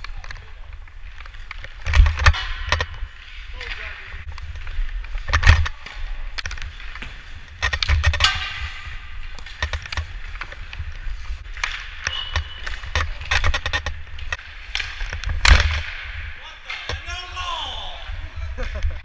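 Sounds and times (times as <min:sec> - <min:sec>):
hockey stick clicking on pucks: 0:00.0 - 0:17.4
skates scraping on ice: 0:00.0 - 0:19.0.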